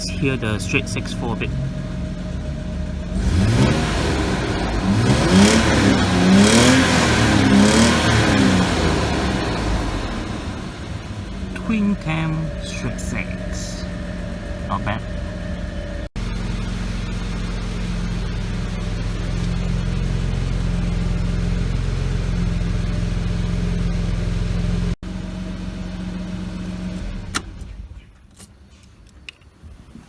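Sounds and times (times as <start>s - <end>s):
car engine running: 0.0s - 28.2s.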